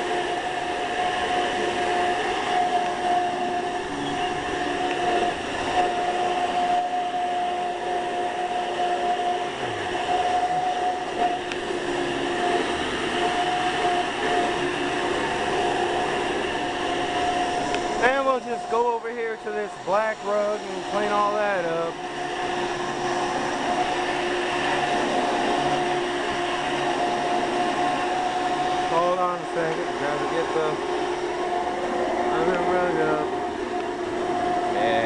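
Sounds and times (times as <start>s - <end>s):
upright vacuum cleaner running: 0.0s - 35.0s.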